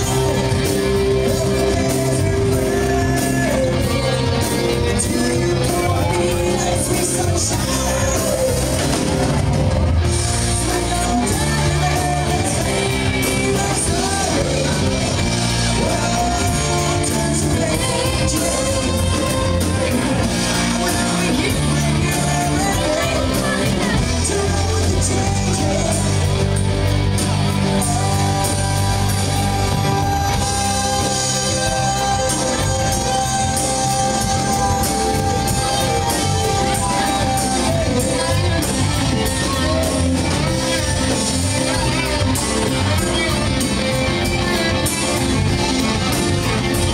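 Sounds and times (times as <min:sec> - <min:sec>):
drums: 0:00.0 - 0:46.9
electric guitars: 0:00.0 - 0:46.9
man singing: 0:00.0 - 0:46.9.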